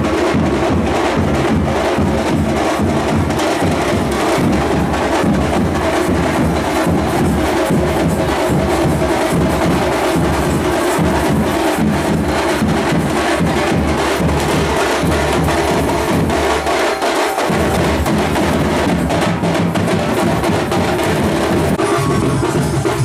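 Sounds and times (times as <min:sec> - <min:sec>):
loud drum-driven music: 0:00.0 - 0:23.0.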